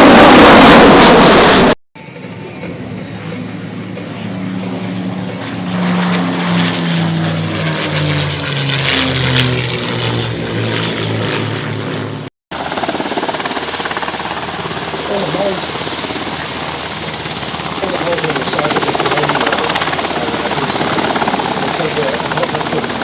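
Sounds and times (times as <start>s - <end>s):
helicopter rotor chop: 0.0s - 23.0s
propeller aircraft flying past: 0.0s - 23.0s.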